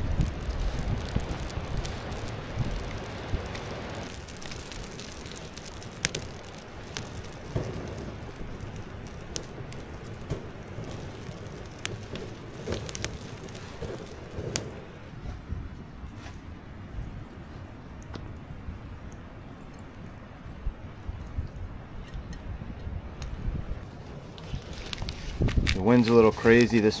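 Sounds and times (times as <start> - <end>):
fire crackling: 0.0 - 27.0.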